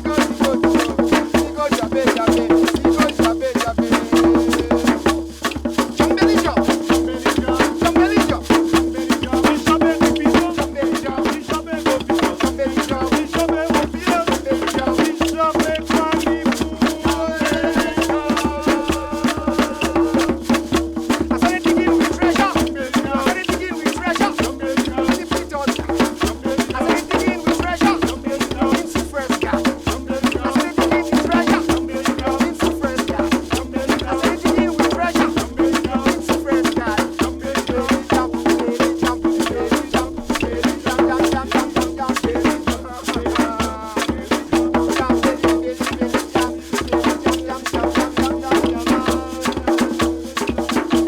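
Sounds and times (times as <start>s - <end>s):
fast percussion beat: 0.0s - 51.0s.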